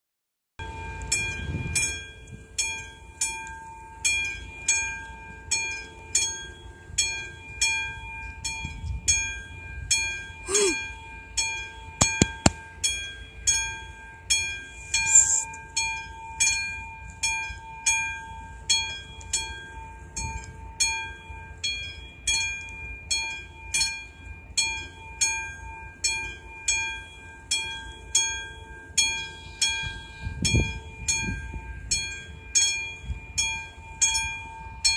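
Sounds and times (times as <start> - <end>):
level crossing warning bell: 0.6 - 34.9.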